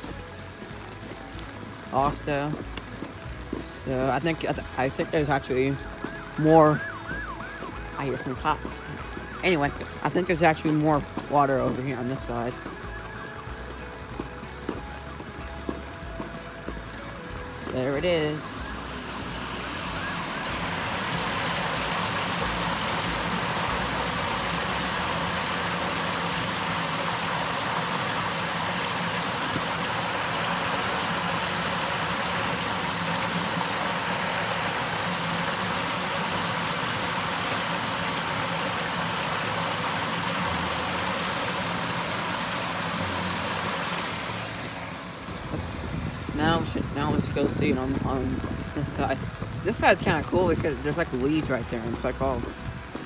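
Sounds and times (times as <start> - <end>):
floodwater rushing: 0.0 - 53.0.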